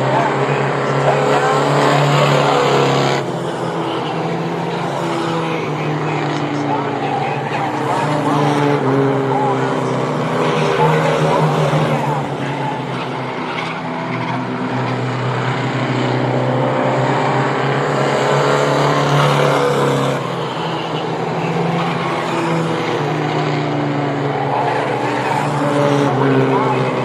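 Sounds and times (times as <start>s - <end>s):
race truck engines passing: 0.0s - 27.0s.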